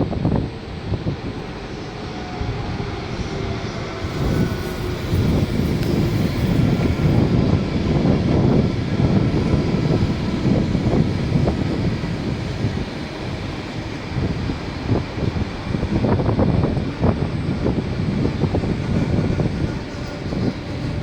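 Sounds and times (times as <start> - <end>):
train running past: 0.0 - 21.0.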